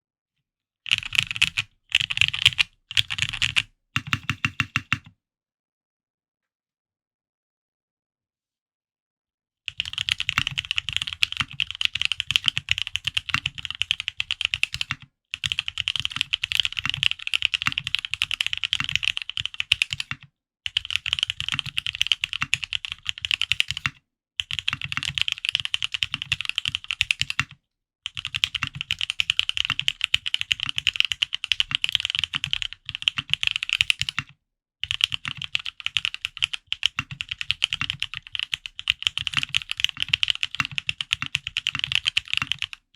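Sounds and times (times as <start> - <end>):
fast mechanical keyboard typing: 0.9 - 5.1, 9.7 - 42.9.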